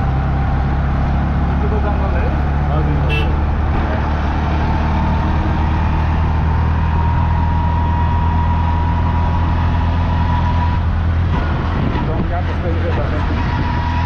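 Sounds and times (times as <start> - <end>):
vehicle engine drone: 0.0 - 14.0.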